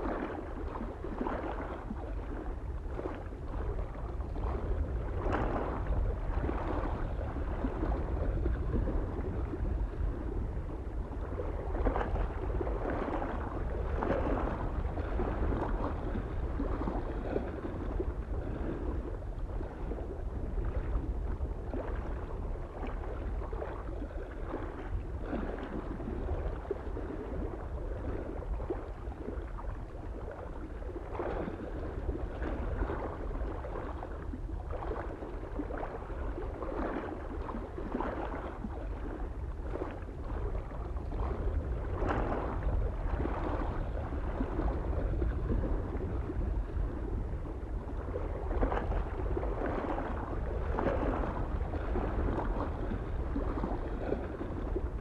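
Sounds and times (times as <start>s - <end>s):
small waves lapping on shore: 0.0s - 55.0s
soft wind noise: 0.0s - 55.0s.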